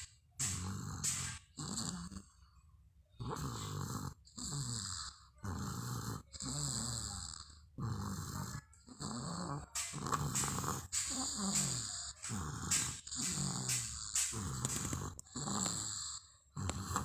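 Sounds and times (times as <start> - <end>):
child snoring: 0.0 - 2.4, 3.2 - 17.0.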